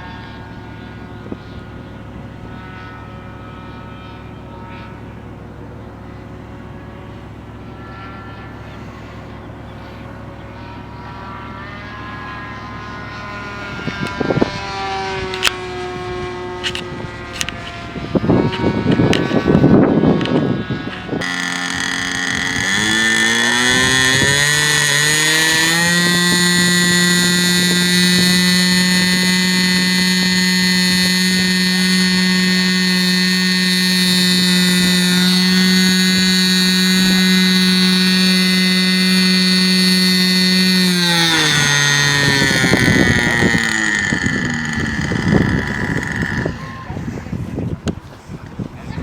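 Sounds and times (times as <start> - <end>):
model airplane engine buzzing: 0.0 - 48.6.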